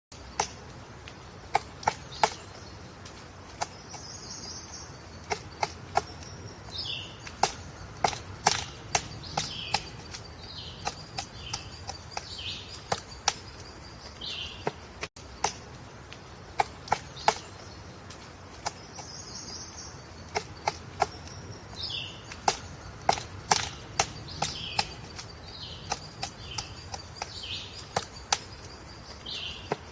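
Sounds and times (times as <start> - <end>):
woodpecker tapping on wood: 0.1 - 29.9
high chirping bird calls: 3.6 - 15.4, 16.4 - 29.9.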